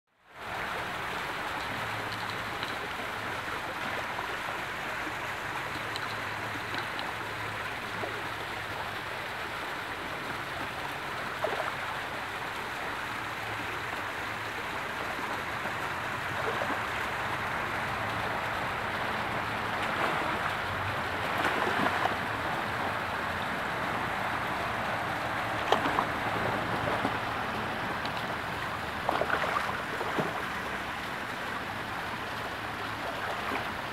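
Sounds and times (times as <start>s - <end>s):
running water rushing: 0.2s - 33.9s.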